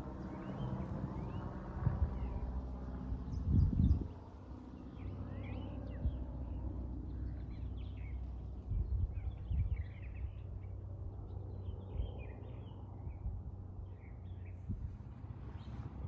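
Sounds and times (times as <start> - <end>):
aircraft rumble overhead: 0.0 - 16.0
songbirds chirping: 0.0 - 16.0.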